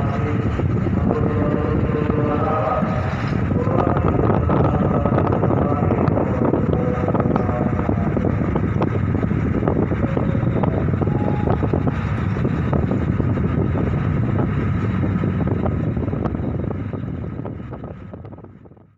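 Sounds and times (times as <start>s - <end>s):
ferry engines rumbling: 0.0s - 18.9s
wind noise on microphone: 0.0s - 18.9s.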